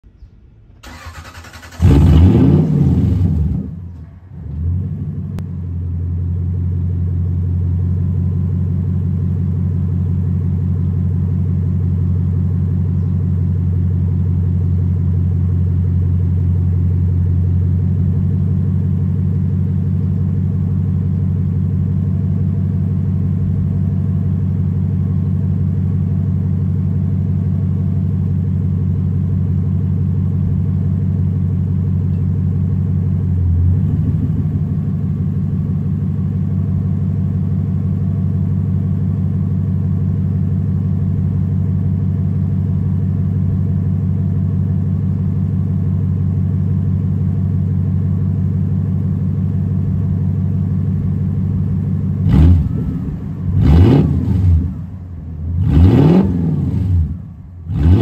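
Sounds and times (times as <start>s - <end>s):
car engine starting and idling: 0.0s - 58.0s.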